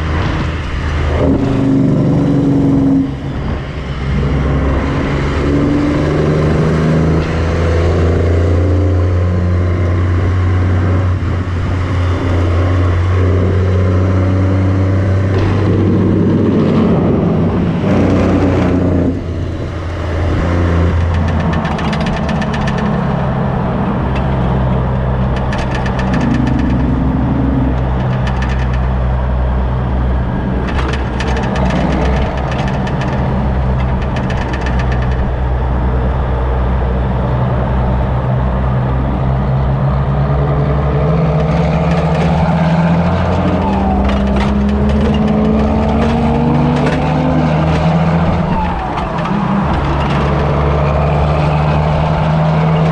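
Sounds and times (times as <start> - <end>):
diesel truck engine driving: 0.0 - 52.9.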